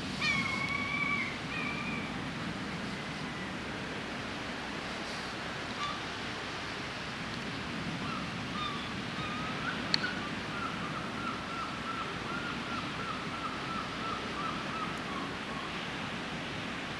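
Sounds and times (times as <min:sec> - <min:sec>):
outdoor ambience hiss: 0:00.0 - 0:16.9.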